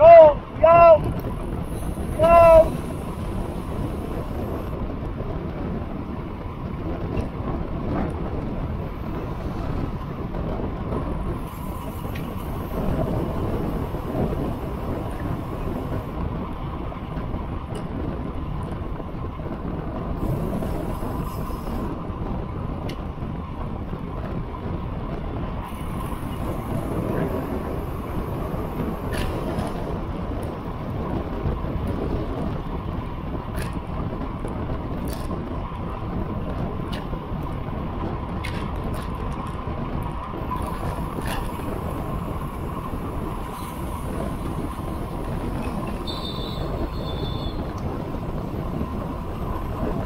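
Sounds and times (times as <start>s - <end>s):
bicycle tyres rolling on asphalt: 0.0s - 50.0s
wind rushing over microphone: 0.0s - 50.0s.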